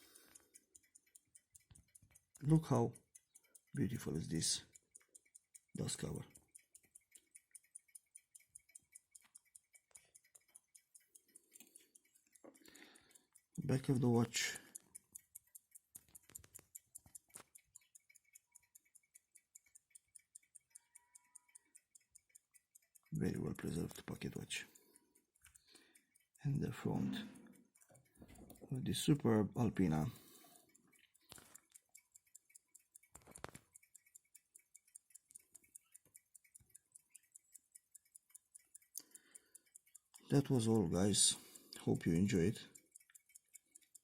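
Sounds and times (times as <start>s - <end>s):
pocket watch ticking: 0.0s - 44.0s.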